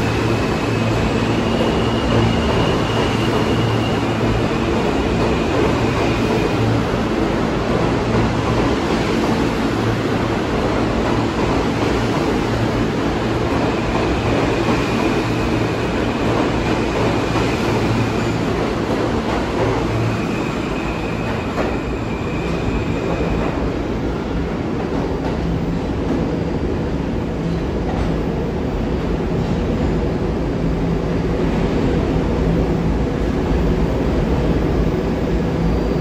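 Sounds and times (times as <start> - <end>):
subway train wheels rumbling: 0.0 - 36.0.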